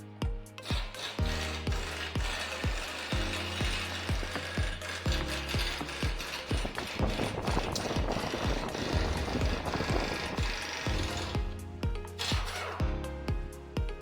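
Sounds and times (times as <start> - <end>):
music with thudding beat: 0.0 - 14.0
rapid ratchet-like clicking: 0.5 - 12.8.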